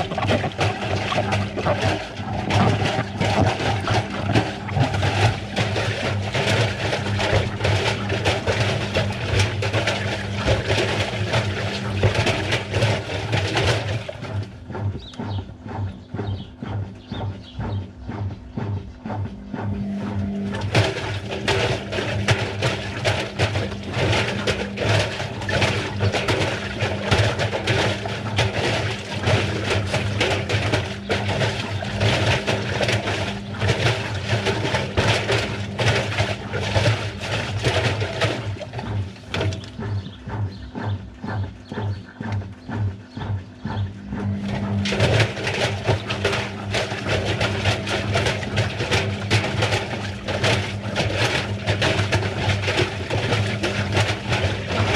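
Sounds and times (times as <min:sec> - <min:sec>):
washing machine motor hum: 0:00.0 - 0:54.9.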